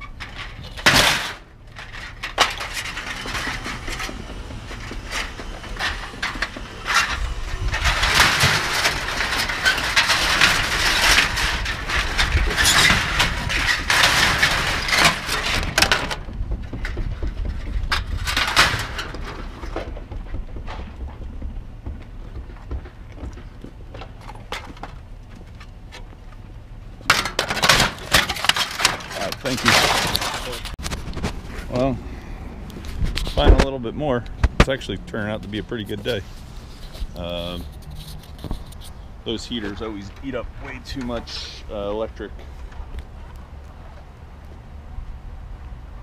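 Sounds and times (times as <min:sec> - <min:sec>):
scrap metal clanking: 0:00.0 - 0:21.0, 0:27.0 - 0:43.3.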